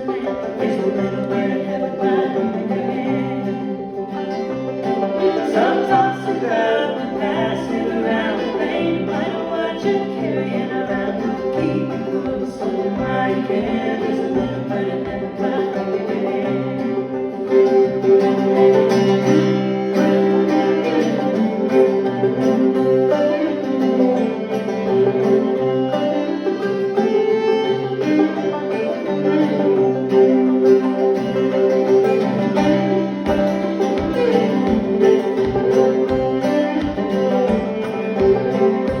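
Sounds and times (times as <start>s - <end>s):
banjo: 0.0s - 39.0s
fiddle: 0.0s - 39.0s
guitar: 0.0s - 39.0s.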